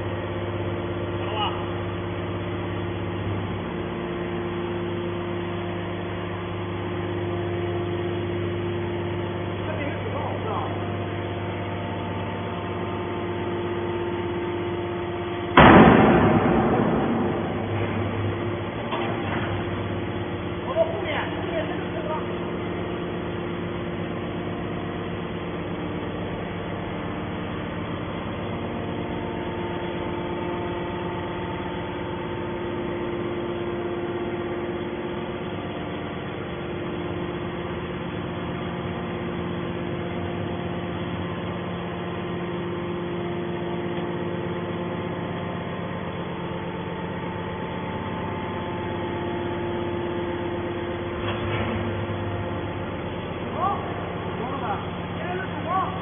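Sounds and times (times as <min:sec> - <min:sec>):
hydraulic machine hum: 0:00.0 - 0:56.0.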